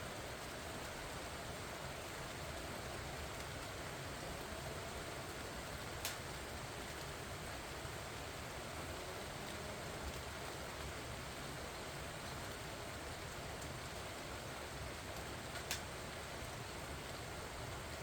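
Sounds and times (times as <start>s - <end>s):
rain pattering on leaves: 0.0s - 18.0s.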